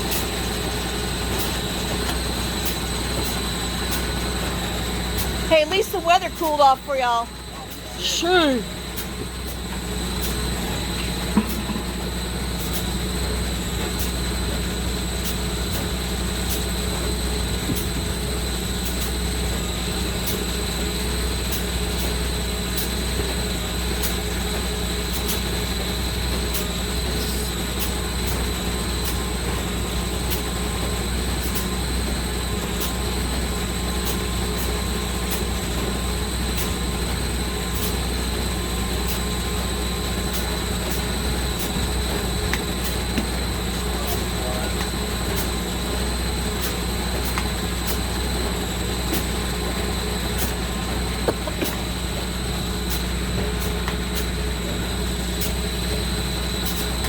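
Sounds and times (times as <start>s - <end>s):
machine low drone: 0.0s - 57.0s.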